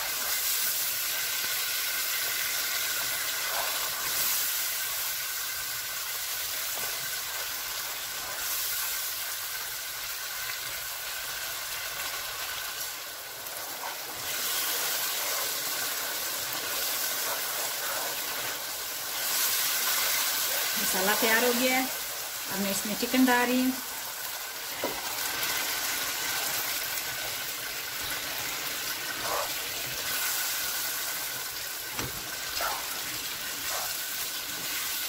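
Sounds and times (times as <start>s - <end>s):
spatula stirring in pan: 0.0s - 22.5s, 23.9s - 35.0s
curry sizzling in oil: 0.0s - 35.0s.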